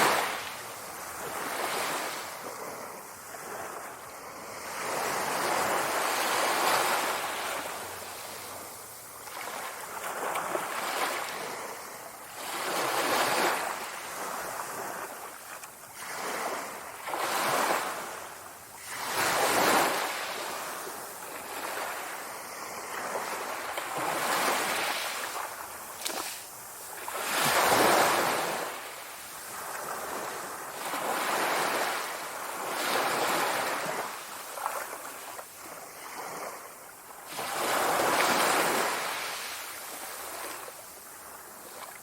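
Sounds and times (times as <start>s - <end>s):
sea waves breaking on shore: 0.0s - 42.0s.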